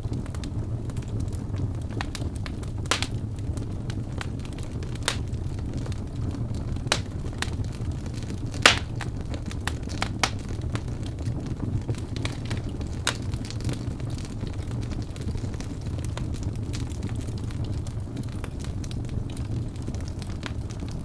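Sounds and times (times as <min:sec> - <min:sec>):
flames rushing: 0:00.1 - 0:21.0
logs crackling and popping: 0:00.1 - 0:21.0.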